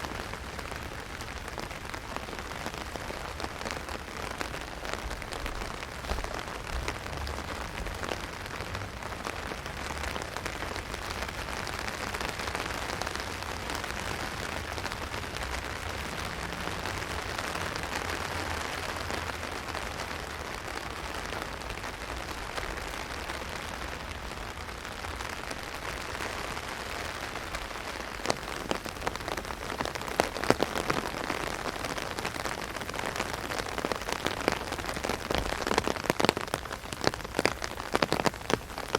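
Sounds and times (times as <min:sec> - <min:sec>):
rain pattering on an umbrella: 0:00.0 - 0:38.9.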